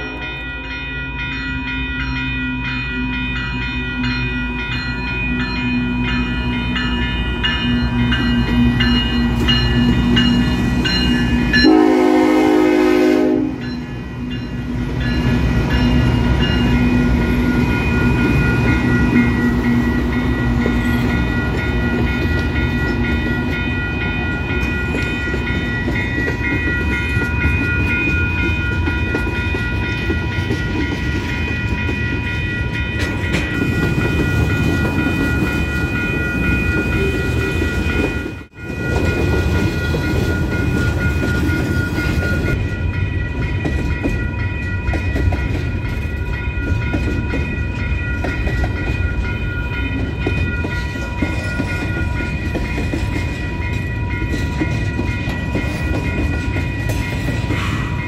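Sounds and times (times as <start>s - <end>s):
crossing bell ringing: 0.0s - 58.0s
train wheels rumbling on rails: 0.0s - 58.0s.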